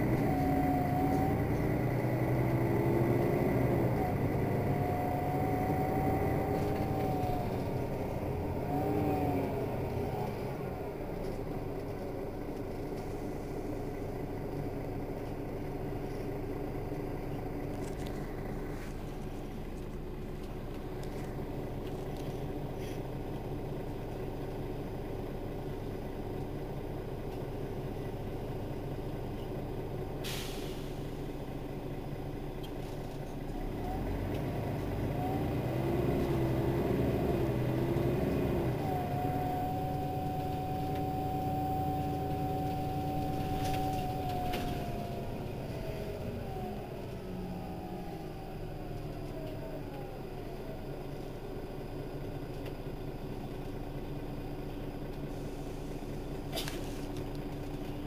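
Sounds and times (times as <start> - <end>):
drivetrain whine: 0.0 - 27.4, 31.2 - 58.0
bus diesel engine running: 0.0 - 58.0.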